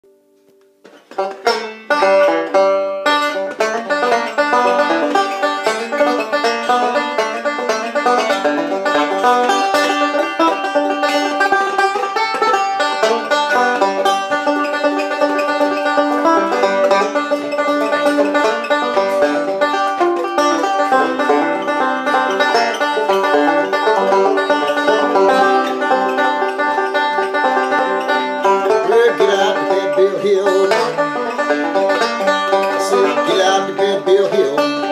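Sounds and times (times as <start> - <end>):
banjo fingerpicking: 0.0 - 34.9.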